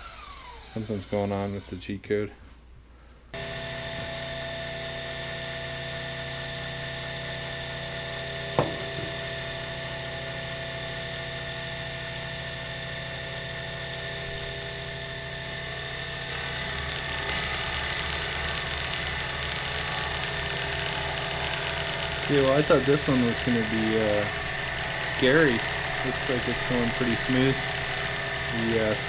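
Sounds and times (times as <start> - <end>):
milling machine motor humming: 3.4 - 29.0.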